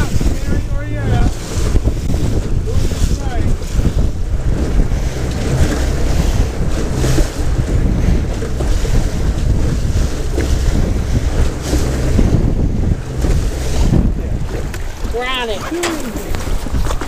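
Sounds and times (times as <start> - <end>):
boat motor running: 0.0 - 17.0
waves splashing: 0.0 - 17.0
wind buffeting microphone: 0.0 - 17.0.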